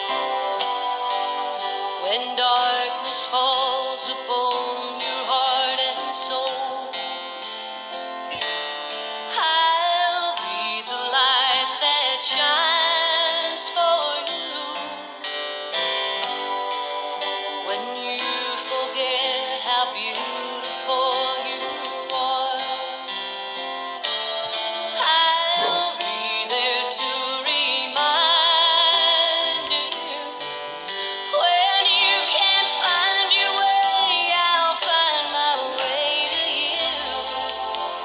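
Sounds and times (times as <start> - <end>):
person singing with vibrato: 0.0 - 23.3, 24.0 - 38.0
guitar accompaniment: 0.0 - 38.0.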